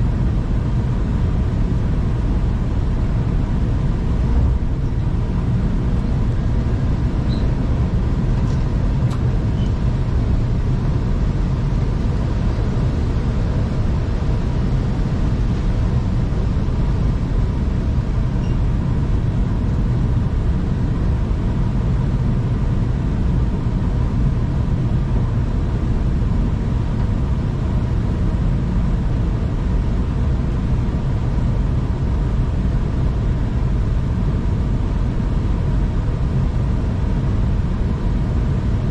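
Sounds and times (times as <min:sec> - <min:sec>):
faint steady whine: 0:00.0 - 0:38.9
train rumbling inside carriage: 0:00.0 - 0:38.9.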